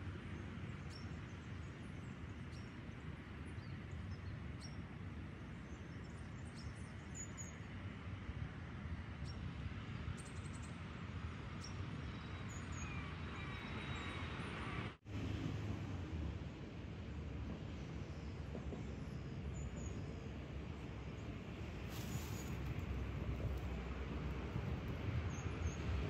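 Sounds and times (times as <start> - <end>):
distant road traffic rumble: 0.1 - 26.0.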